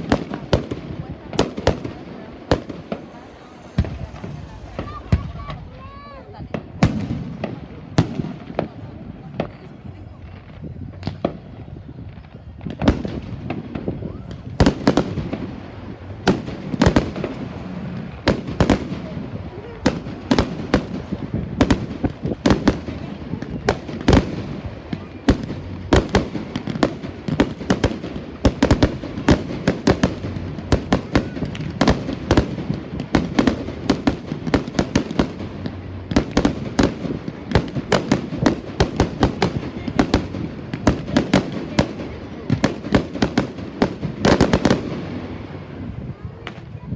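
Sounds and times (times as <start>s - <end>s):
continuous low rumble: 0.0s - 46.9s
fireworks bangs and crackles: 0.0s - 46.9s.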